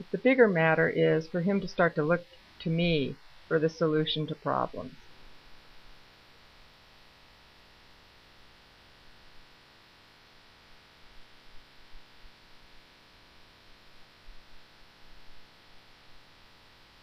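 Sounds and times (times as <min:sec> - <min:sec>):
faint hiss and hum: 0:00.0 - 0:17.0.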